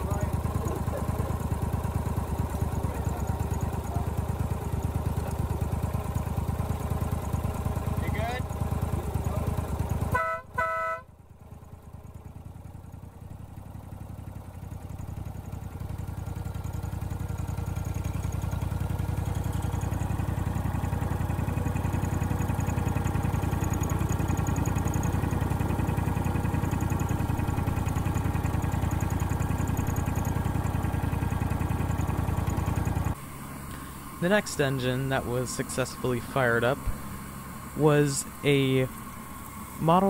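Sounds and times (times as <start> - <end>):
small gasoline engine running: 0.0 - 40.0.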